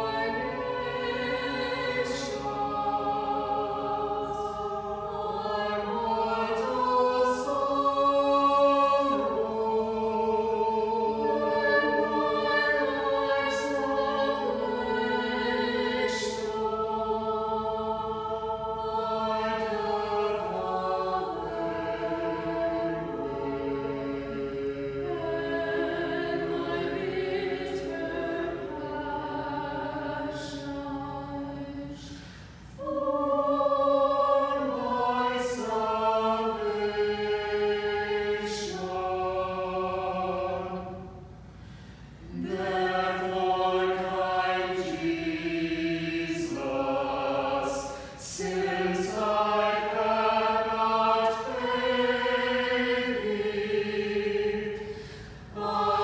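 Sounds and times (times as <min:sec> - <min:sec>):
choir singing unaccompanied: 0:00.0 - 0:56.0.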